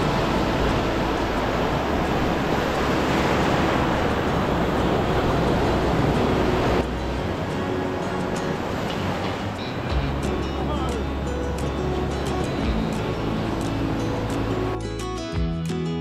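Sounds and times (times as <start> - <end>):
wind rumbling on microphone: 0.0 - 14.8
waves and surf washing: 0.0 - 15.3.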